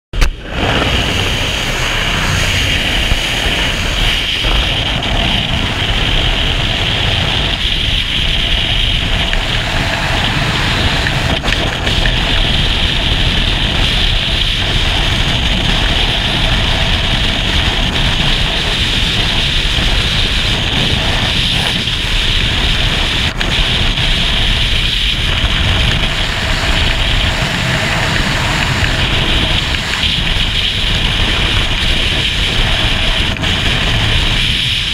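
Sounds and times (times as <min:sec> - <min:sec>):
wind buffeting microphone: 0:00.1 - 0:34.9.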